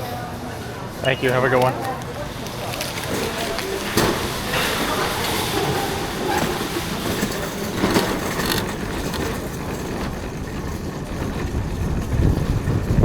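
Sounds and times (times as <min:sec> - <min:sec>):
shopping cart rattling: 0:01.0 - 0:13.0.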